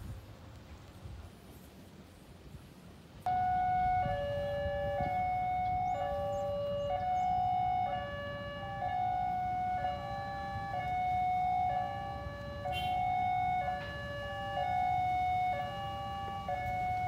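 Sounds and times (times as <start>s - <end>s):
two-tone electronic siren: 3.3s - 17.0s.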